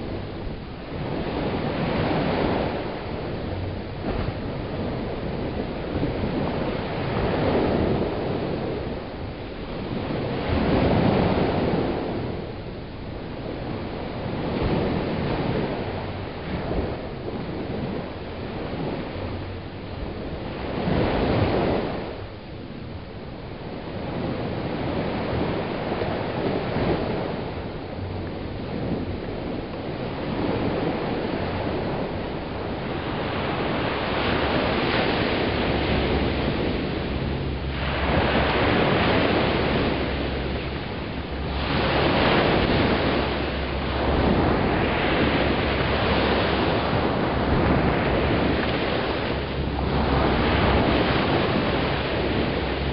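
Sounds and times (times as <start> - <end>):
small waves breaking on beach: 0.0 - 52.9
wind rumbling on microphone: 0.0 - 52.9.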